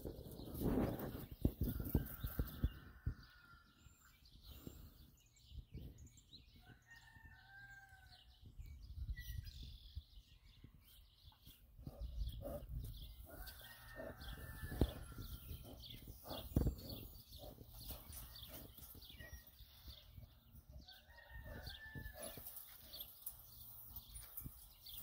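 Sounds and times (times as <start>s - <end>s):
birds calling and chirping: 0.0s - 25.0s.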